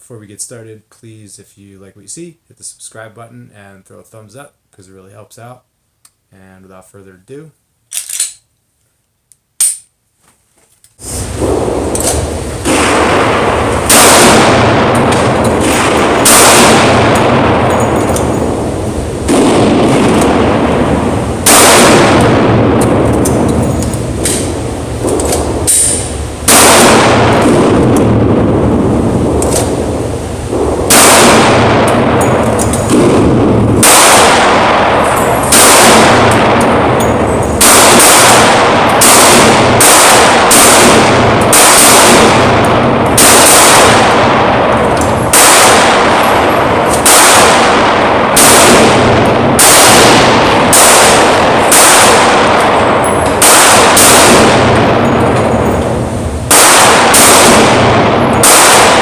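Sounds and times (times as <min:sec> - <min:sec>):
pistol shots with echo: 0:11.4 - 0:59.0.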